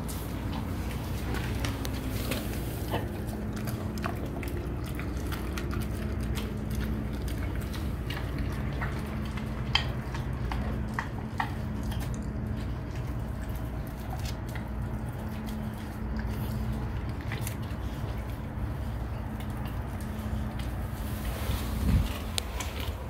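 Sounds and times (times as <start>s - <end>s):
bone crunching and cracking: 0.0s - 20.8s
dog chewing wet mouth sounds: 0.0s - 23.0s.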